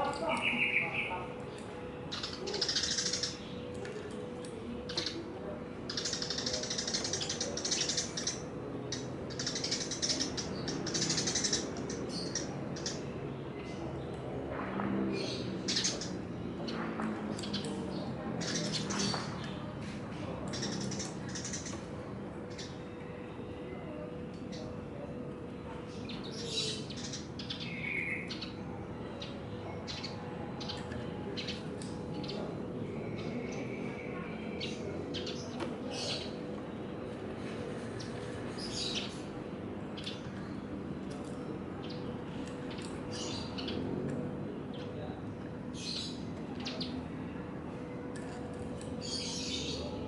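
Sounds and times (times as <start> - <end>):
sparrows chirping: 0.0 - 50.0.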